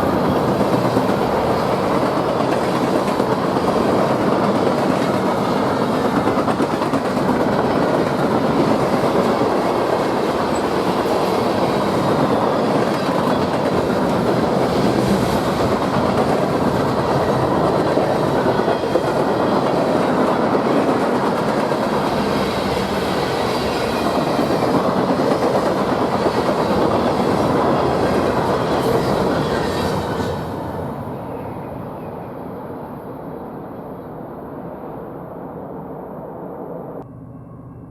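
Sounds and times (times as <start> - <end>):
train wheels on rails: 0.0 - 32.1.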